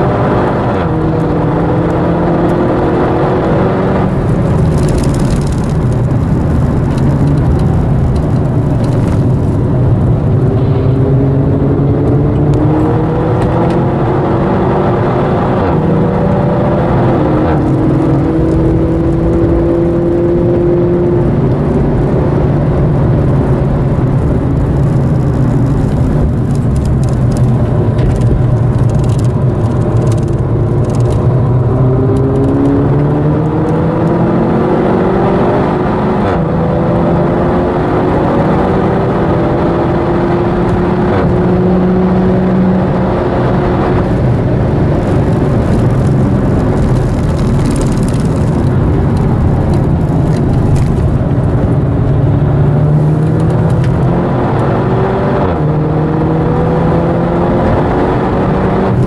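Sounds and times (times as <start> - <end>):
car engine revving through gears: 0.0 - 59.0
tyre and road noise: 0.0 - 59.0.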